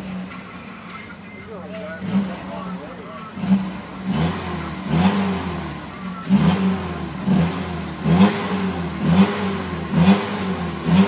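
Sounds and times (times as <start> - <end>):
pickup engine revving: 0.0 - 11.0.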